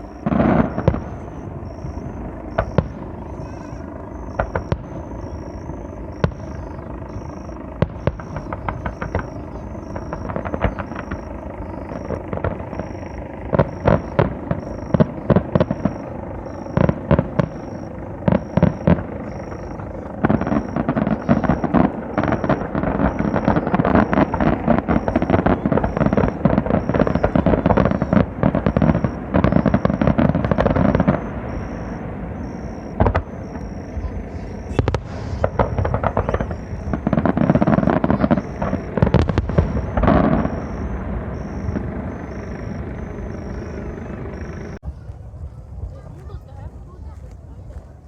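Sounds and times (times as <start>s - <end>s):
fireworks bursting: 0.0s - 44.8s
fireworks crackle: 0.0s - 47.9s.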